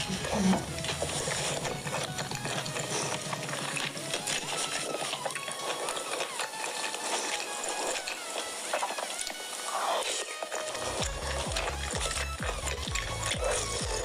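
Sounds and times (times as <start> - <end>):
chewing and tearing chicken: 0.0 - 14.0
wet mouth clicks and smacks: 0.7 - 14.0.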